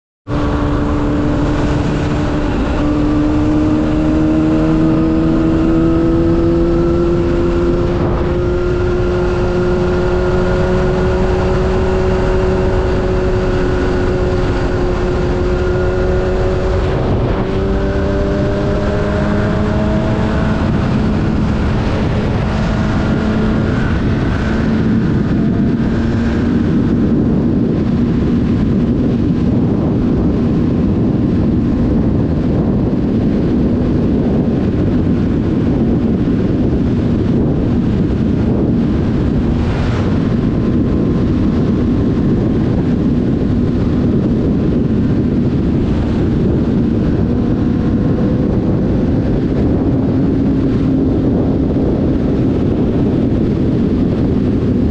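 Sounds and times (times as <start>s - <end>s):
motorcycle engine cruising: 0.3s - 54.9s
wind noise rushing: 0.3s - 54.9s.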